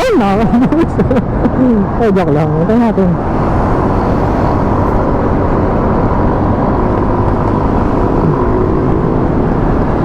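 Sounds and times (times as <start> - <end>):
scooter engine drone: 0.0 - 10.0
wind rush on microphone: 0.0 - 10.0.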